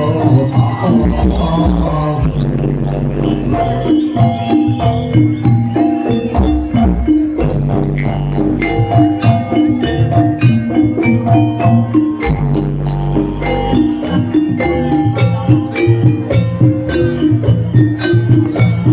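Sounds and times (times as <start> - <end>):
gamelan music: 0.0 - 18.9.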